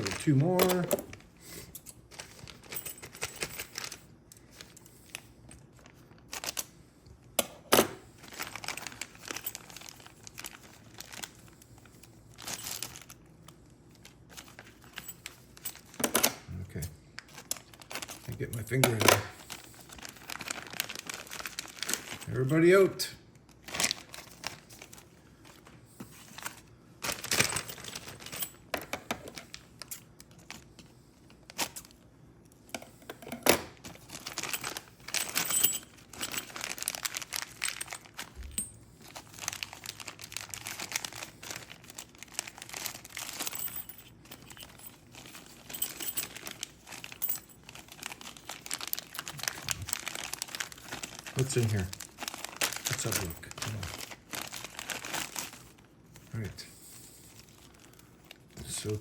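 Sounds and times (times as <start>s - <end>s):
crinkling rustles: 2.1s - 6.6s, 8.2s - 16.0s, 17.2s - 22.8s, 23.4s - 28.6s, 33.8s - 59.0s.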